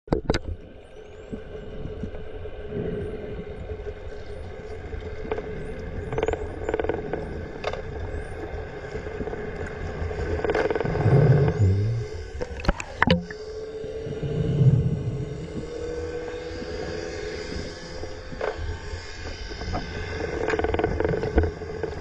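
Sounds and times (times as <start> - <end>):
steady low hum: 0.8 - 22.0.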